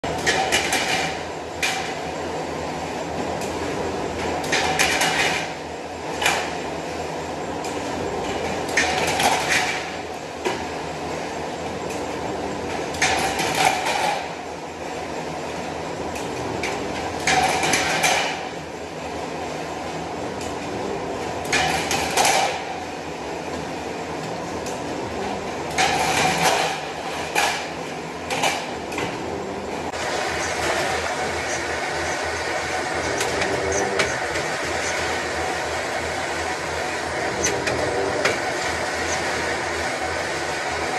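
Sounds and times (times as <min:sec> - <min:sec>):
roll forming machine running: 0:00.0 - 0:40.9
steady mechanical drone: 0:00.0 - 0:40.9.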